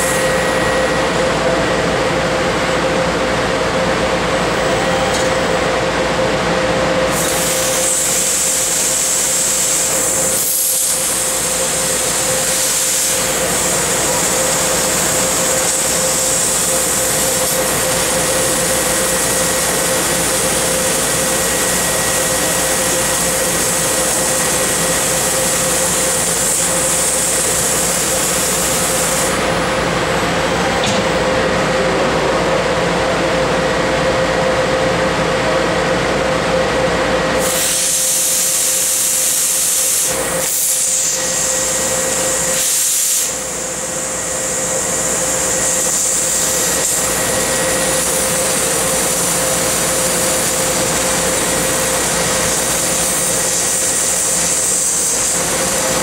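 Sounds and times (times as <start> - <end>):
laser cutter gas jet hissing: 0.0 - 1.8, 6.7 - 31.5, 37.3 - 56.0
steady machine hum: 0.0 - 56.0.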